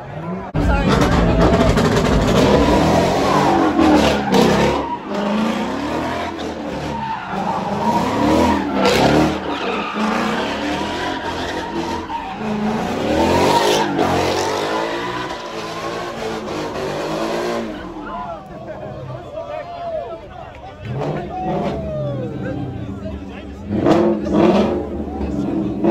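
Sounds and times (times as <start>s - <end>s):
tires squealing: 0.0s - 25.9s
car engine revving: 0.2s - 18.2s, 20.8s - 25.9s.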